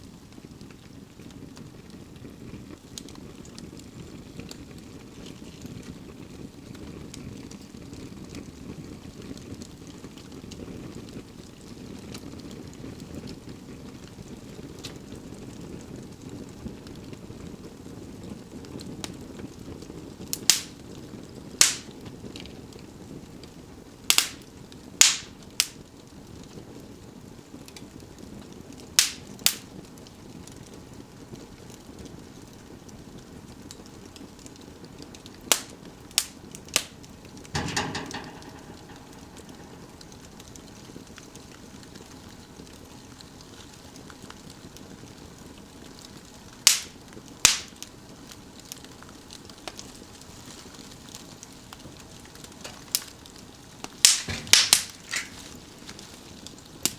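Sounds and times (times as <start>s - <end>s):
fire crackling pops: 0.0s - 56.9s.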